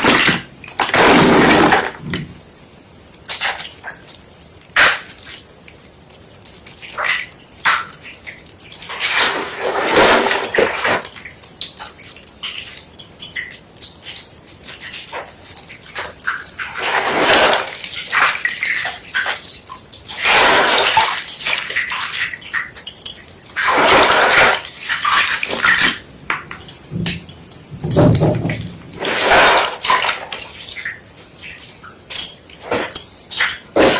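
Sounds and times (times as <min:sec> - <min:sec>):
wet squishing: 0:03.1 - 0:33.9.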